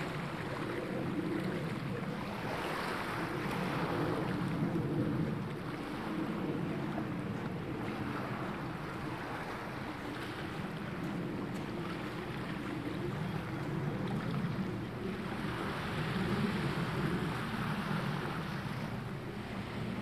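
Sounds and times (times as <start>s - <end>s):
small waves washing onto shore: 0.0s - 20.0s
wind on microphone: 0.0s - 20.0s.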